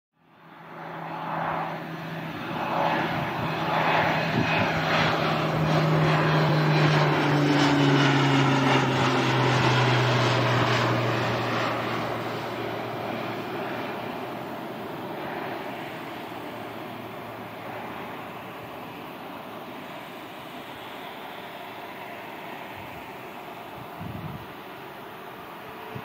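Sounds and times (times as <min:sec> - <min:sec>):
distant jet engines rumbling: 0:00.2 - 0:26.0.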